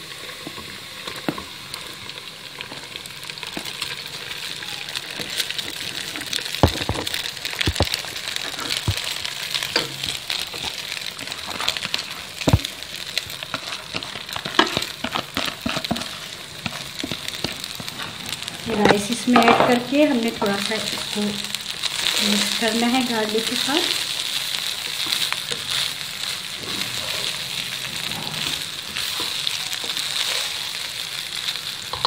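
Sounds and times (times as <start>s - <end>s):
oil sizzling in a pan: 0.0s - 32.0s.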